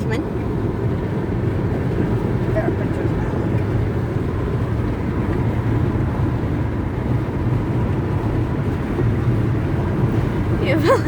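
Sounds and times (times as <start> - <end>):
car road noise from cabin: 0.0 - 11.0.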